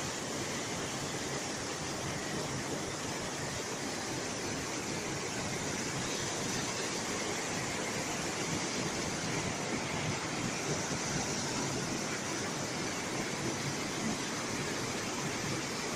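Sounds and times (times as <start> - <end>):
waterfall over rocks: 0.0 - 15.9.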